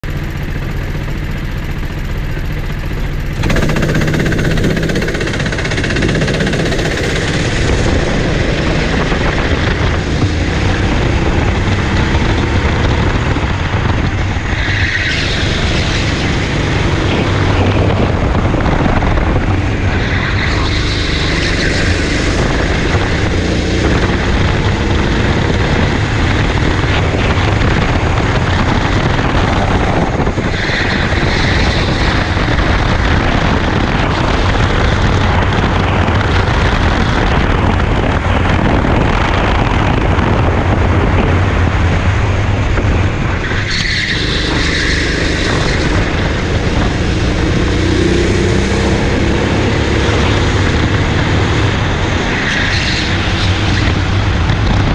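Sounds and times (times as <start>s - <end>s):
kart engine racing: 0.0s - 54.9s.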